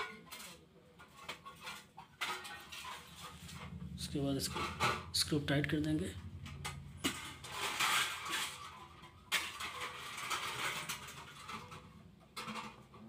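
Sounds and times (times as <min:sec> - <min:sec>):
hands scraping and rustling wires: 0:00.0 - 0:13.0.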